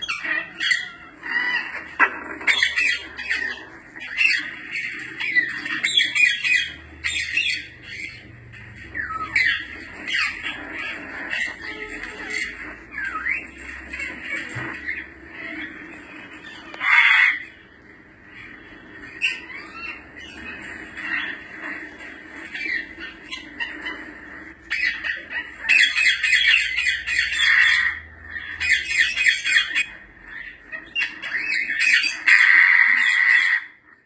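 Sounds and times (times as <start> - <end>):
parrot calling: 0.0 - 34.0
parrot squawking chatter: 0.0 - 34.0.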